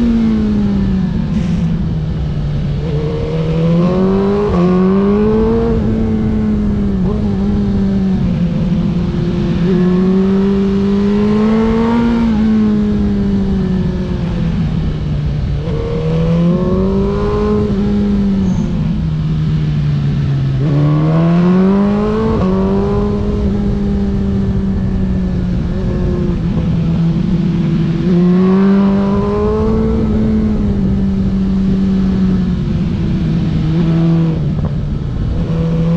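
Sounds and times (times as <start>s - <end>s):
race car engine at speed: 0.0s - 35.9s
wind and road rumble: 0.0s - 35.9s.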